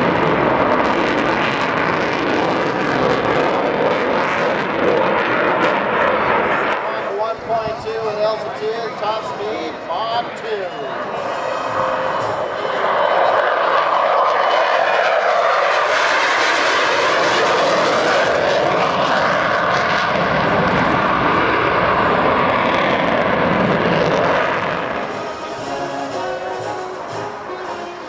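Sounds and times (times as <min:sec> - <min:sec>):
jet engine roar passing: 0:00.0 - 0:28.0.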